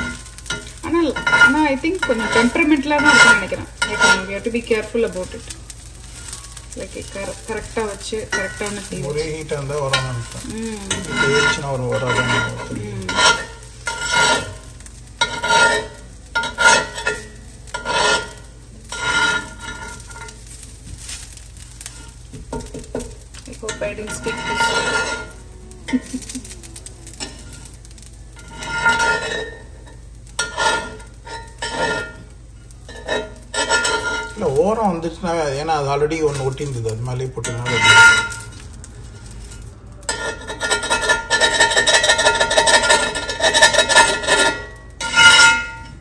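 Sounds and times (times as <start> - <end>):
batter sizzling: 0.0 - 46.0
utensil scraping a pan: 0.0 - 46.0.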